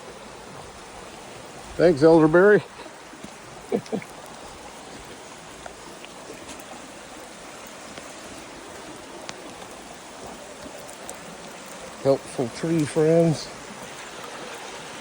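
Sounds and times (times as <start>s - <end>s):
creek water running: 0.0s - 15.0s
faint water drips: 0.0s - 15.0s.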